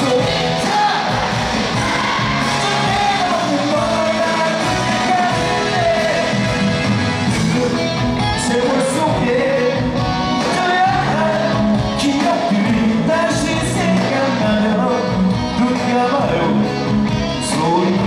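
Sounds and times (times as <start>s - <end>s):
live pop-rock band: 0.0s - 18.0s
person singing: 0.0s - 18.0s.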